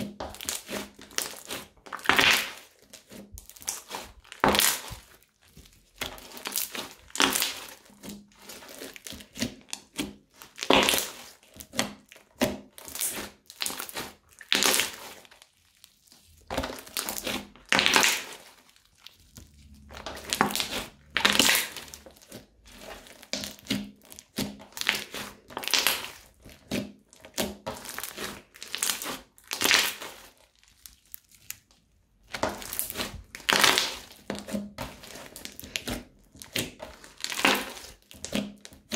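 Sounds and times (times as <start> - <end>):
crunchy slime crackling: 0.0 - 38.9.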